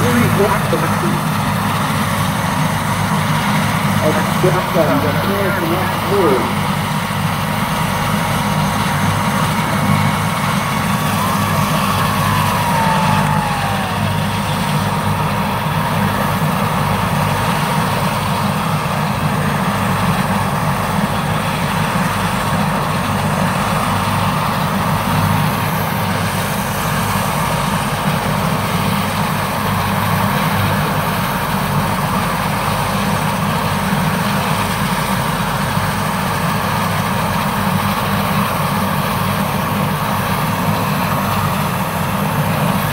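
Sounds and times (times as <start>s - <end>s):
helicopter turbine and rotor: 0.0s - 42.9s.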